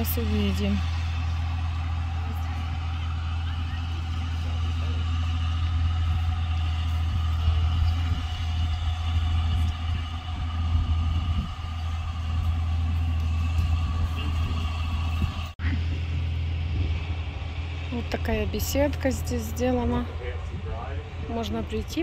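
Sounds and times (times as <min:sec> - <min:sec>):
high whine: 0:00.0 - 0:22.0
tractor engine drone: 0:00.0 - 0:22.0.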